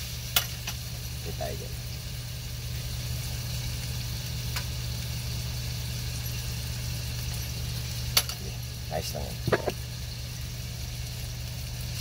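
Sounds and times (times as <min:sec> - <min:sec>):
steady low hum: 0:00.0 - 0:12.0
steak sizzling in frying pan: 0:00.0 - 0:12.0.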